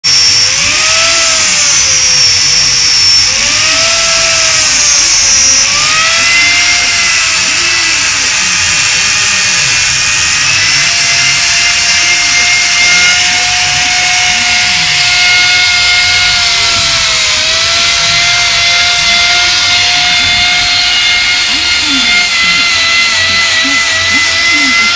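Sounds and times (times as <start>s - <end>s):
grinder whining against metal: 0.0s - 24.9s.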